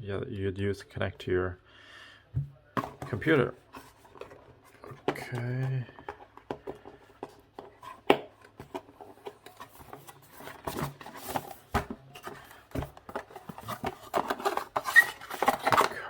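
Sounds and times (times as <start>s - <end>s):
cardboard box handling: 2.8s - 16.0s.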